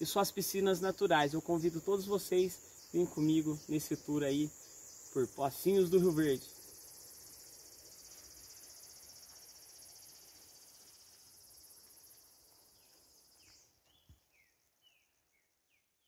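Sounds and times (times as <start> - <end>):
insect trilling: 0.0 - 13.7.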